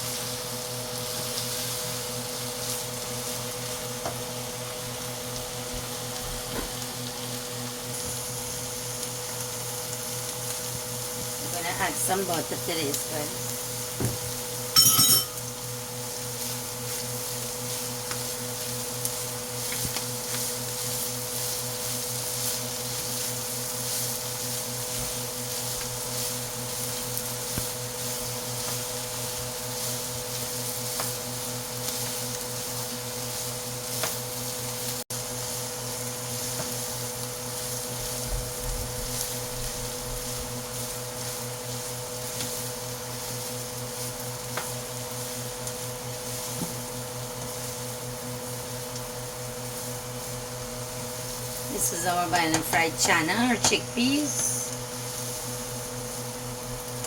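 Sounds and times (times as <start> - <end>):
chickpeas sizzling in butter: 0.0 - 57.0.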